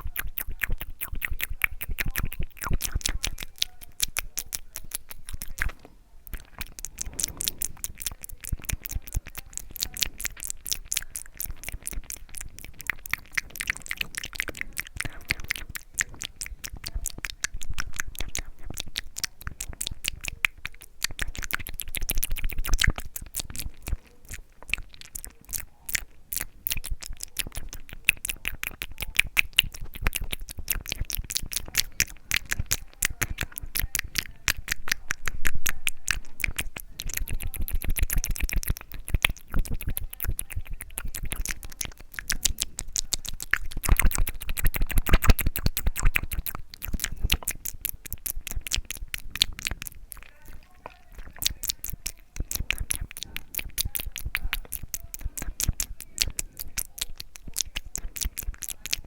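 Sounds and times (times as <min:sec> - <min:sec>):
wet lip and tongue clicks: 0:00.0 - 0:59.0.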